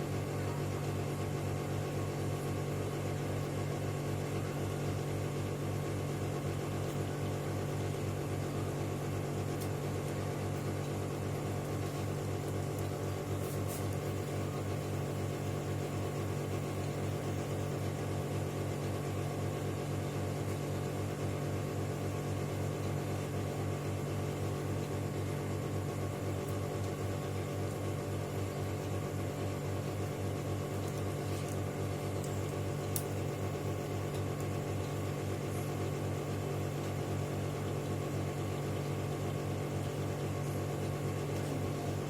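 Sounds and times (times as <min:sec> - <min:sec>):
low machine hum with flutter: 0:00.0 - 0:42.0.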